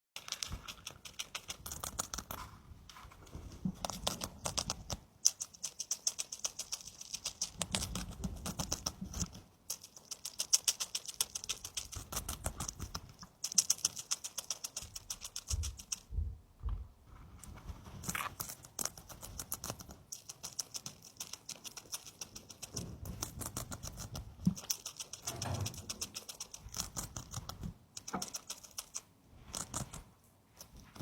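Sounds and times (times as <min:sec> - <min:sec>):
hamster crunching and nibbling: 0:00.2 - 0:31.0.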